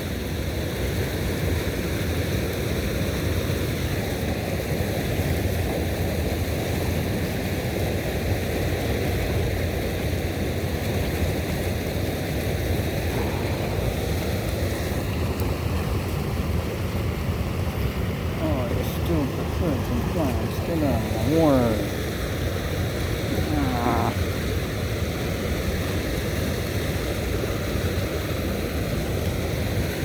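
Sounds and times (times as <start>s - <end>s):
rushing outdoor noise: 0.0s - 30.0s.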